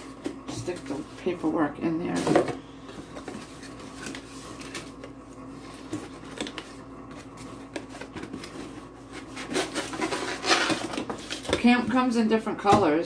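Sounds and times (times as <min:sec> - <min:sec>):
faint steady hum: 0:00.0 - 0:13.0
cardboard and paper rustling: 0:00.2 - 0:12.0.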